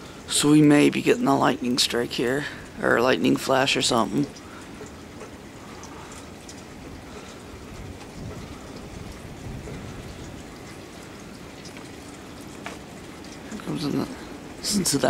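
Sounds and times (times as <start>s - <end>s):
steady rain falling: 0.0s - 15.0s
gusting wind: 2.2s - 15.0s.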